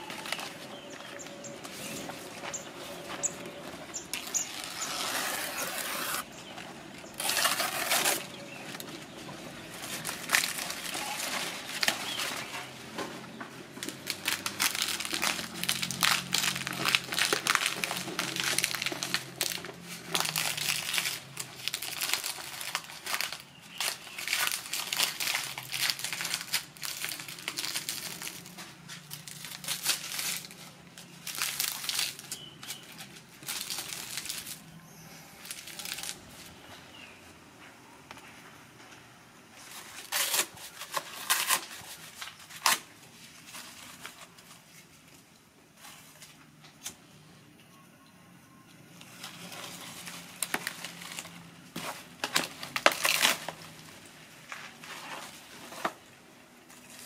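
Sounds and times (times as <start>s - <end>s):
leaves rustling and crinkling: 0.0s - 46.9s, 49.0s - 57.0s.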